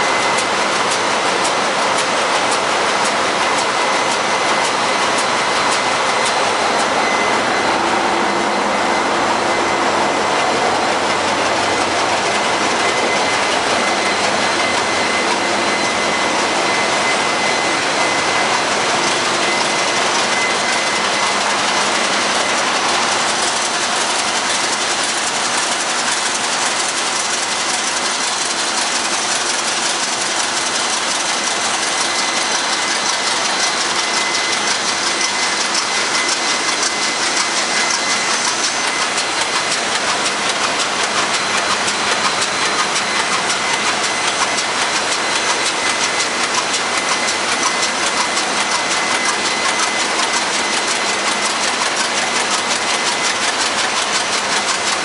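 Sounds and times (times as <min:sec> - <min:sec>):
diesel engines clattering: 0:00.0 - 0:55.0
steady high whine: 0:00.0 - 0:55.0.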